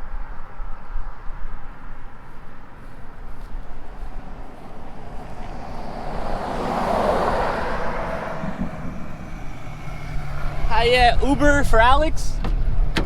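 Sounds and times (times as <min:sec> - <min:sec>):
road noise: 0:00.0 - 0:13.0
sports car driving by: 0:02.0 - 0:13.0.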